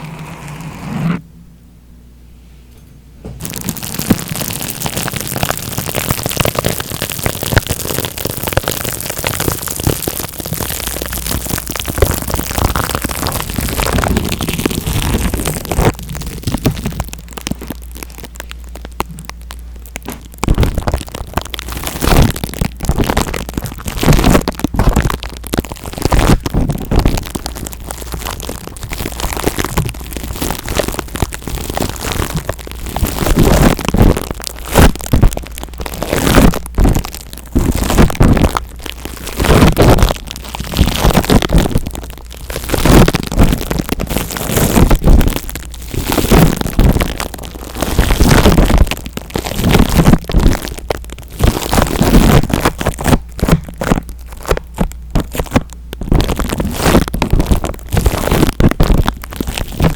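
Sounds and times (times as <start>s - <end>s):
scratching and rubbing on microphone: 0.0s - 1.2s, 3.4s - 19.5s, 20.3s - 59.9s.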